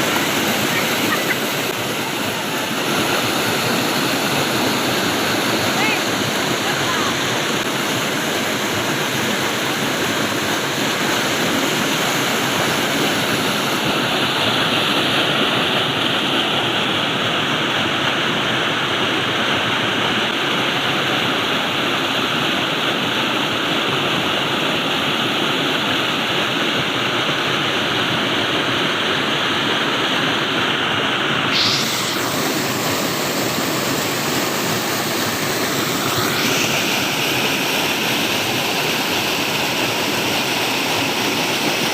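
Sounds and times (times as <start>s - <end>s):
water rushing: 0.0s - 41.9s.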